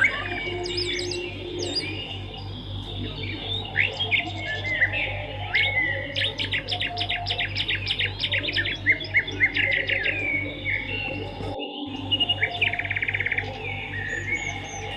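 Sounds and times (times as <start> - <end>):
steady low hum: 0.0 - 14.9
swiftlets twittering: 0.0 - 14.9.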